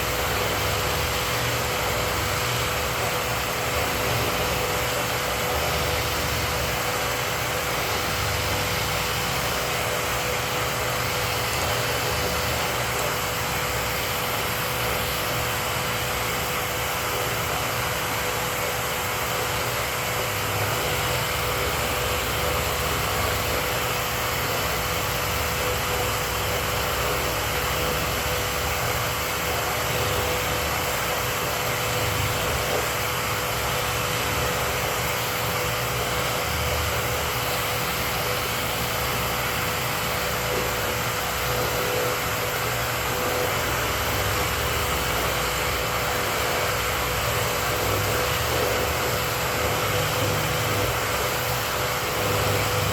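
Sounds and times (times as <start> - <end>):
dust-collection vacuum running: 0.0 - 52.9.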